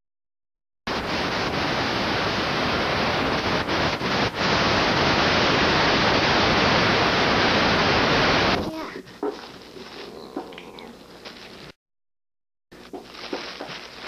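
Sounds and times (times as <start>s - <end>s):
vhs tape static hiss: 0.9s - 11.8s, 12.8s - 14.0s.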